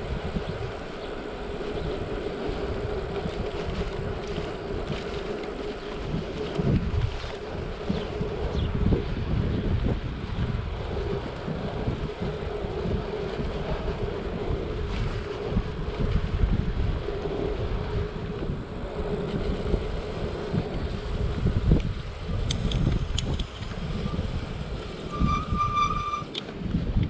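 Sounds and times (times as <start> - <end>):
constant low hum: 0.0 - 27.0
wind buffeting microphone: 0.0 - 27.0.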